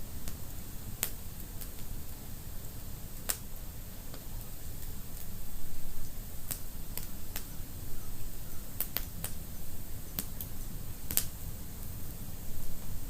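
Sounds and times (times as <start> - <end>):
low rumble of flames: 0.0 - 13.0
wood fire crackling and popping: 0.2 - 2.3, 3.0 - 7.6, 8.7 - 13.0.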